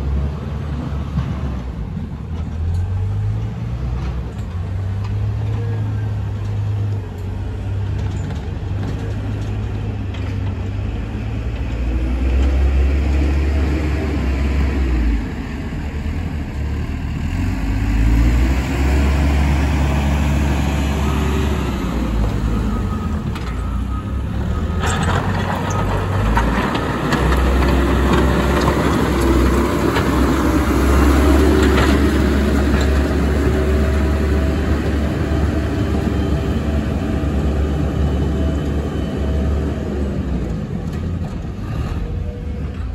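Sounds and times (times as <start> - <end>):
diesel engine droning: 0.0 - 42.9.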